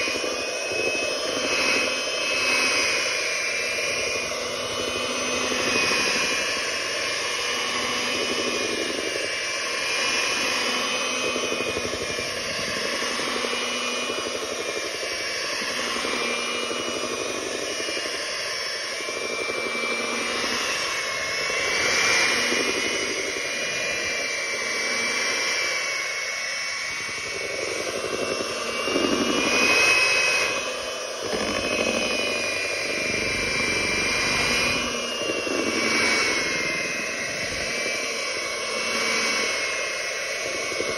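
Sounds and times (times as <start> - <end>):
electric hand mixer whirring: 0.0 - 40.9.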